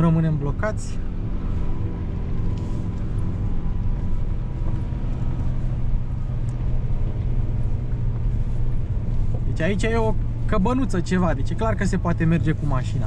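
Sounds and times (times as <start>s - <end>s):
engine drone: 0.0s - 13.0s
tyre and road noise: 0.0s - 13.0s.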